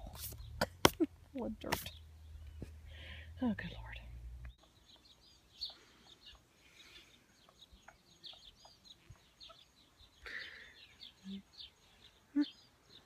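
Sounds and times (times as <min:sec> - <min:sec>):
faint bird chirps: 0:01.8 - 0:13.0.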